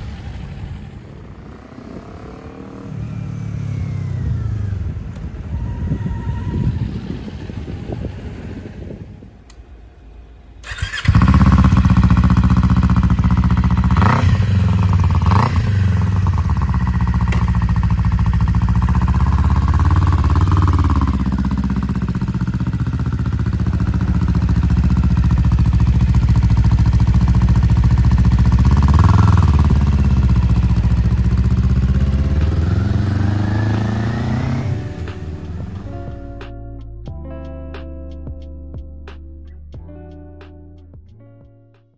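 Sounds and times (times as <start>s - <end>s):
engine starting and revving: 0.0s - 9.6s, 10.6s - 36.1s.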